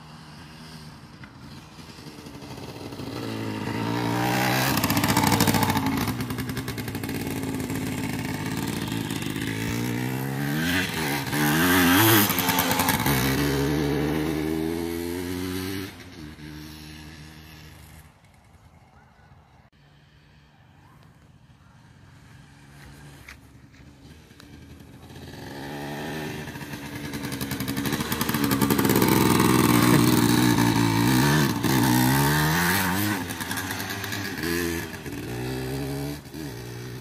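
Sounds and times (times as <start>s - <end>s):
two-stroke motorcycle revving: 0.0s - 19.1s, 21.2s - 37.0s.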